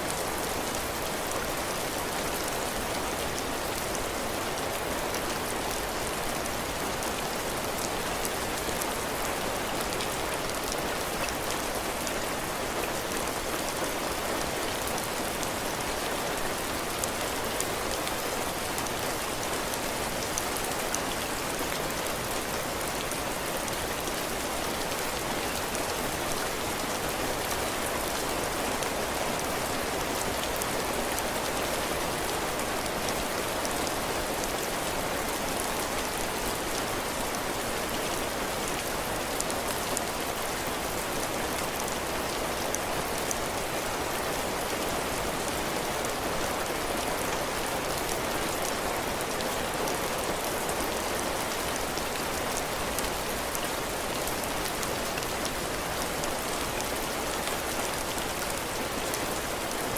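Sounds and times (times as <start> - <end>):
heavy rain on a roof: 0.0 - 59.9.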